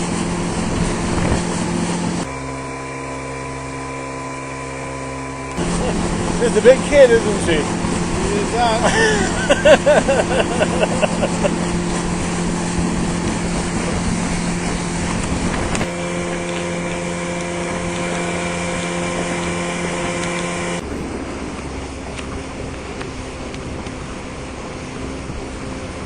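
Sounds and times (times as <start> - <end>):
motorboat engine humming: 0.0 - 26.0.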